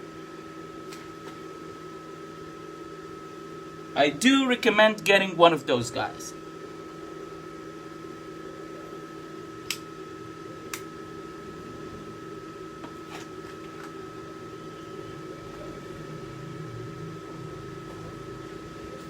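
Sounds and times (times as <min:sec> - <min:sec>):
welding machine fan humming: 0:00.0 - 0:08.4, 0:09.0 - 0:19.0.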